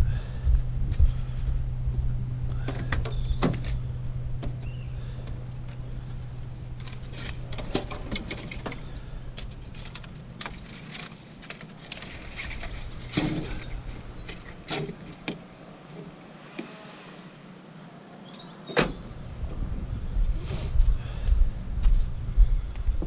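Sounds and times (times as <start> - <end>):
steady low hum: 0.0 - 18.2, 18.9 - 23.0.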